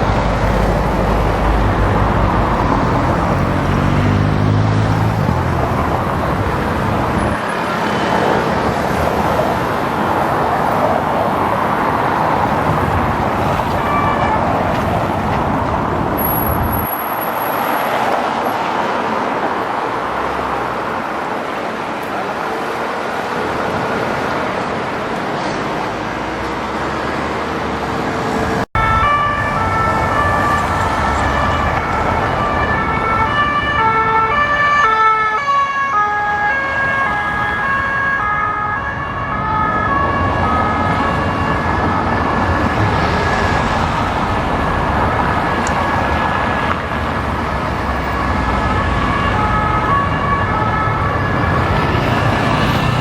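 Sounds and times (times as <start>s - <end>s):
two-tone police sirens: 0.0s - 18.9s, 28.5s - 53.0s
city traffic: 0.0s - 53.0s.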